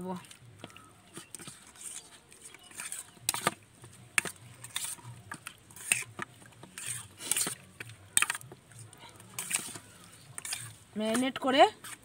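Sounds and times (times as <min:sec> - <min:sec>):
spoon clinking and scraping bowl: 0:00.7 - 0:12.0.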